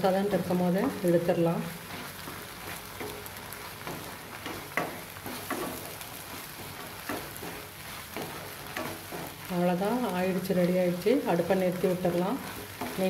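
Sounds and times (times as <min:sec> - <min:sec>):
sauce sizzling in a pan: 0:00.0 - 0:13.0
spatula scraping and tapping pan: 0:01.8 - 0:13.0.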